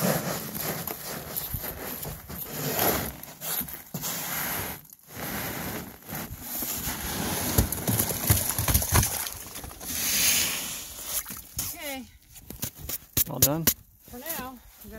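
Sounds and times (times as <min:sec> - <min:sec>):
ice crunching and scraping on boat: 0:00.0 - 0:14.9.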